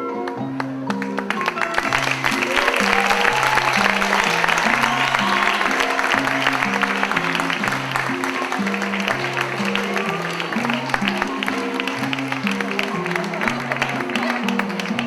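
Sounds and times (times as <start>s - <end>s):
plucked-string music: 0.0s - 15.0s
audience applause: 0.1s - 15.0s.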